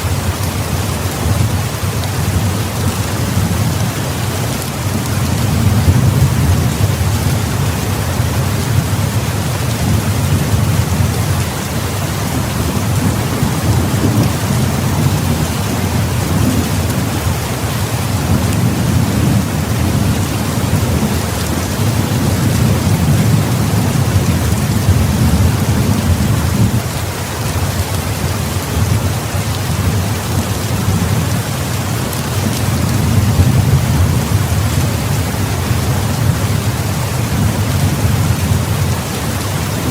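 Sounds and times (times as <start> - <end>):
heavy rain falling: 0.0 - 39.9
low rolling thunder: 1.2 - 27.0, 28.7 - 39.9.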